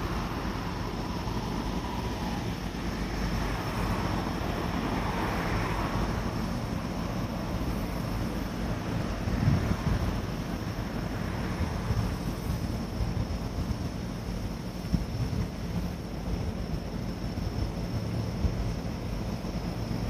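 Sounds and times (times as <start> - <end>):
faint train whine: 0.0 - 20.0
train wheels rumbling on rail: 0.0 - 20.0.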